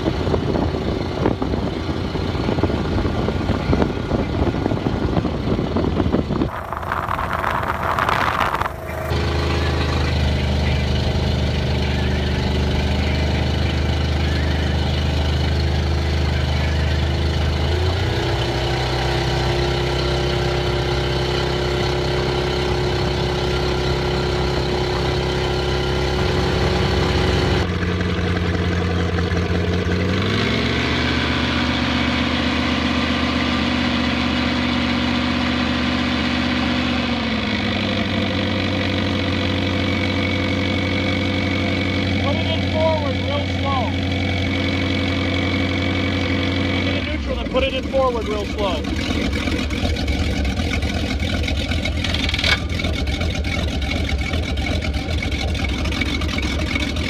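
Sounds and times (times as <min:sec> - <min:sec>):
boat engine revving: 0:00.0 - 0:57.0
boat engine running: 0:00.0 - 0:57.0.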